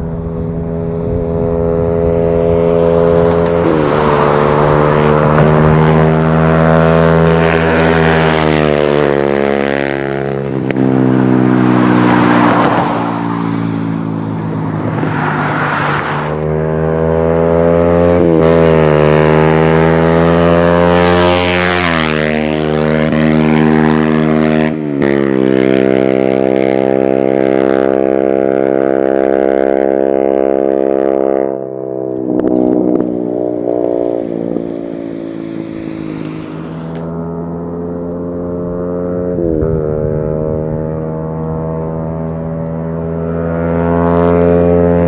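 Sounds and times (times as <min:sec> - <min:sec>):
motorcycle exhaust note: 0:00.0 - 0:45.0.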